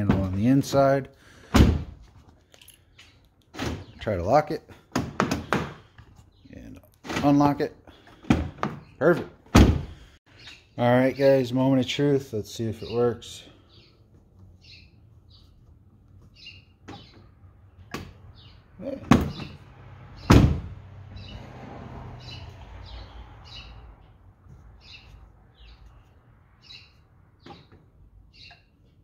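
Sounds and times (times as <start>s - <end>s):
birds chirping: 2.5s - 29.0s.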